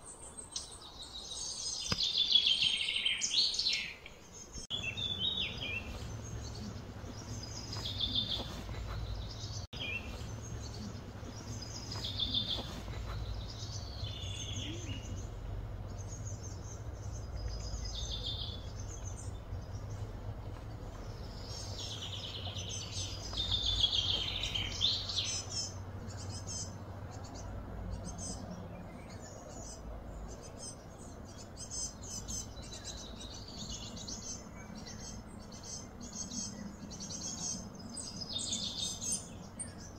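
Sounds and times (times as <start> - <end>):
birds calling: 0.0 - 39.9
low background hum: 4.3 - 39.9.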